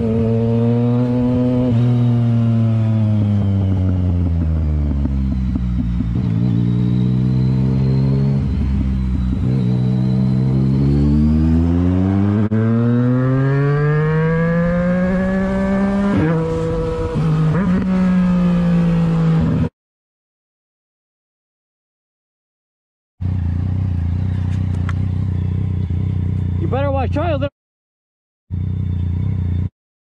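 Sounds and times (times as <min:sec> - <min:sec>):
motorcycle engine accelerating: 0:00.0 - 0:19.7, 0:23.2 - 0:27.5, 0:28.5 - 0:29.7.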